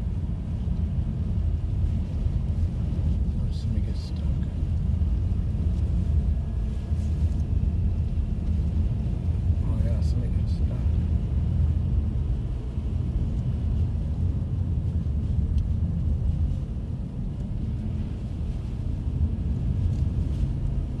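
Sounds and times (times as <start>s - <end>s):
vehicle rumble on snowy road: 0.0s - 21.0s.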